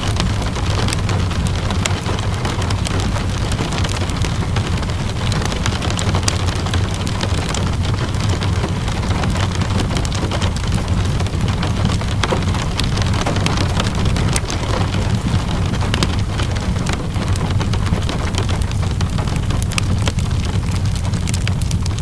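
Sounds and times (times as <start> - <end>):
steady rainfall: 0.0 - 22.0
wood fire crackling: 0.0 - 22.0.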